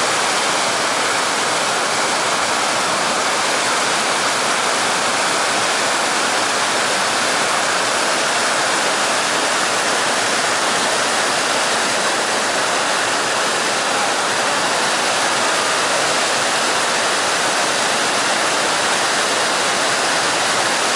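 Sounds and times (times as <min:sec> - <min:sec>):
stream water rushing: 0:00.0 - 0:20.9.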